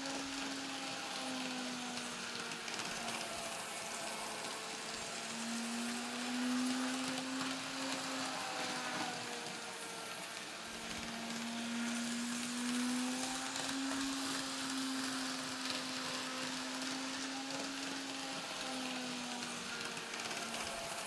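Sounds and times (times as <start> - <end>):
model train motor hum: 0.0 - 21.0
wheels rolling on track: 0.0 - 21.0.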